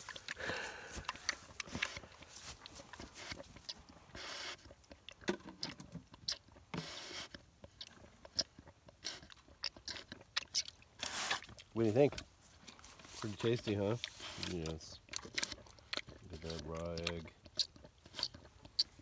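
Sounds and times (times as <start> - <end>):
pig eating wet food: 0.0 - 19.0.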